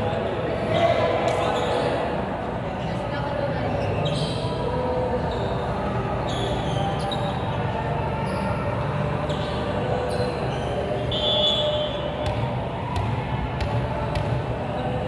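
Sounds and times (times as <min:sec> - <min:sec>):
gym hall din: 0:00.0 - 0:15.0
sneaker squeaks: 0:01.3 - 0:02.0, 0:03.6 - 0:15.0.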